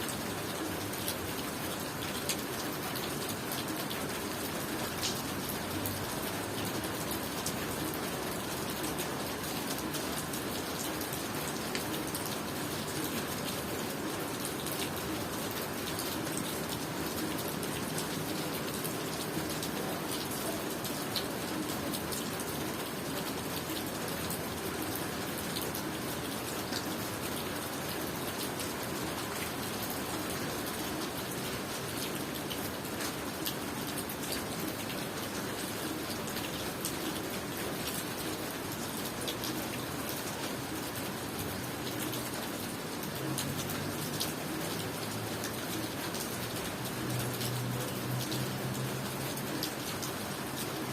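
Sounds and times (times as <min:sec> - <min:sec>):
rain drops ticking on surfaces: 0:00.0 - 0:50.9.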